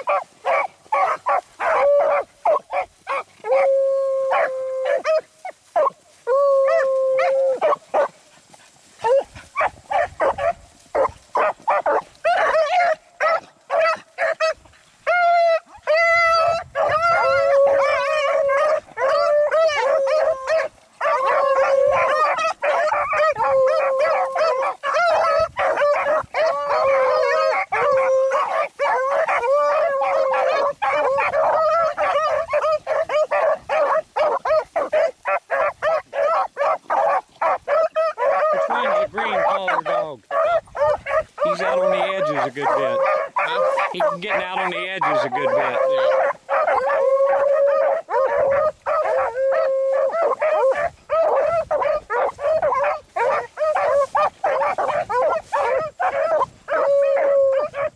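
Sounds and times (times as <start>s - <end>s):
hounds baying: 0.0s - 57.9s.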